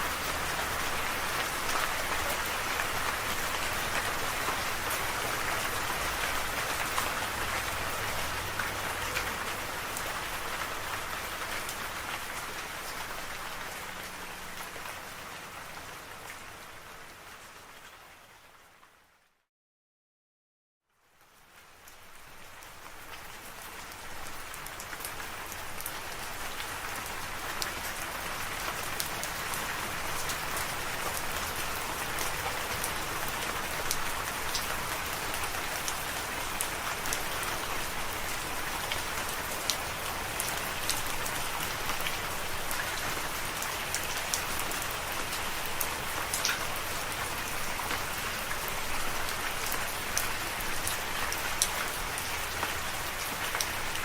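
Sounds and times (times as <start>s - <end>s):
steady rain hiss: 0.0s - 16.9s, 21.1s - 54.0s.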